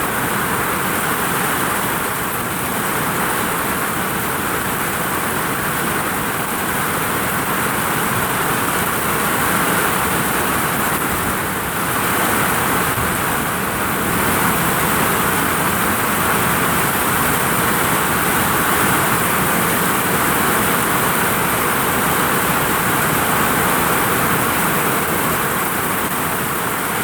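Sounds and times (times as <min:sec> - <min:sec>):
heavy rain on a vinyl roof: 0:00.0 - 0:27.0.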